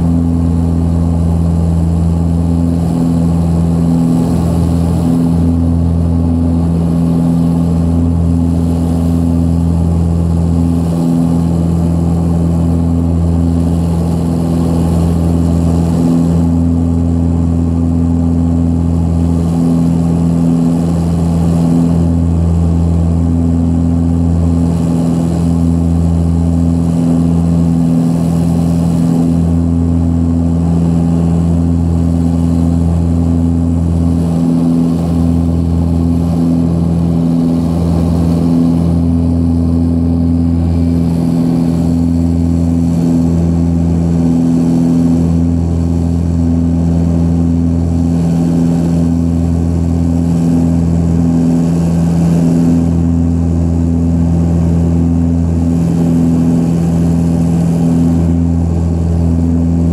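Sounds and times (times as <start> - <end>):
propeller drone in cabin: 0.0 - 59.9.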